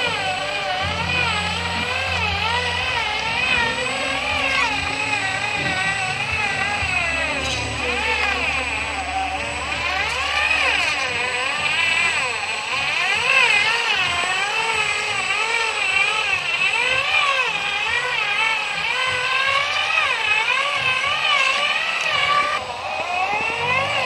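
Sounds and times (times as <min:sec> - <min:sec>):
truck engine revving under load: 0:00.0 - 0:24.0.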